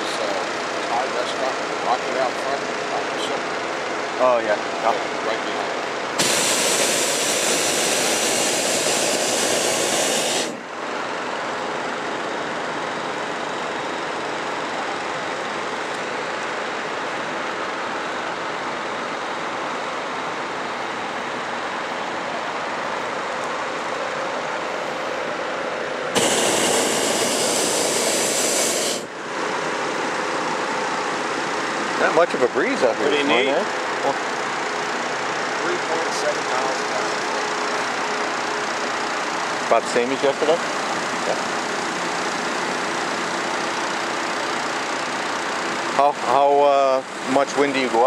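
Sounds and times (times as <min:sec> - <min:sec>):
propane burner blasts: 0:00.0 - 0:18.2, 0:22.5 - 0:48.0.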